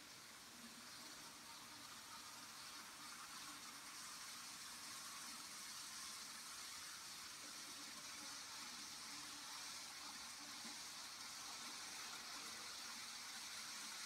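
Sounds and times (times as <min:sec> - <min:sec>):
constant hiss: 0:00.0 - 0:14.0.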